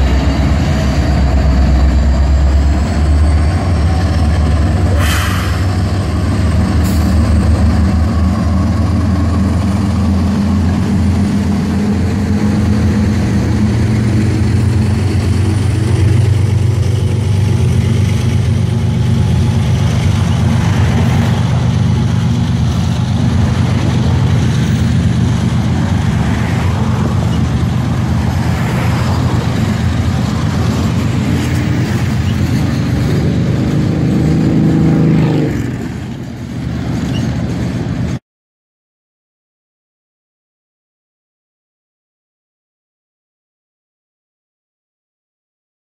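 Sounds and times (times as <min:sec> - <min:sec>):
diesel locomotive passing: 0:00.0 - 0:38.2
freight cars wheels rumbling on rail: 0:00.0 - 0:38.2.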